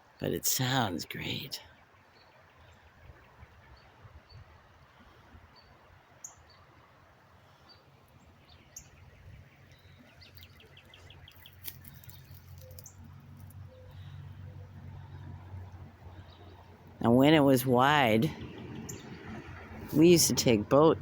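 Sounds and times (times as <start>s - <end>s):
songbirds chirping: 0.0s - 21.0s
faint low steady rumble: 2.6s - 21.0s.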